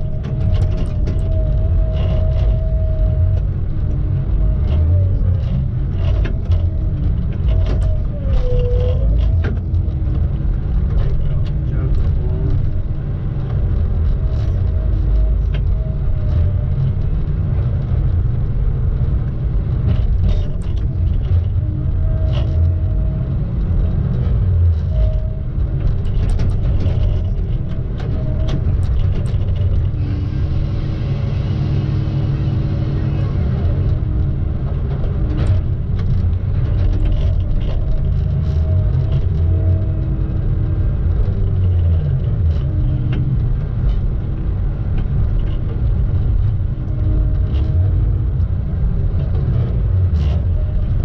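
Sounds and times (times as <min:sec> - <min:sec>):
diesel engine under load: 0:00.0 - 0:51.0.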